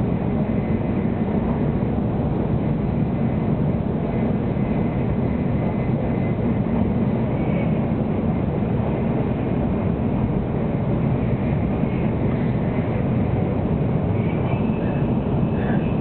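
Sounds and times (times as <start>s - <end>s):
train running noise rumble: 0.0s - 16.0s.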